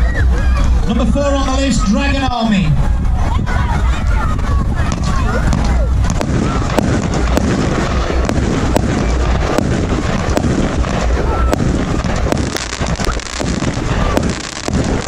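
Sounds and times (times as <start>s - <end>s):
firework bangs and crackles: 0.0s - 15.0s
wind rumble on microphone: 0.0s - 15.0s.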